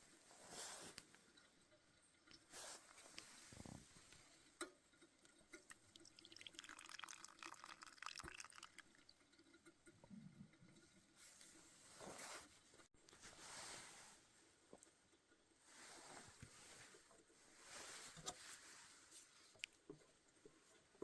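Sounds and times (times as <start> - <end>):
soft rustle: 0.0 - 6.0, 9.6 - 21.0.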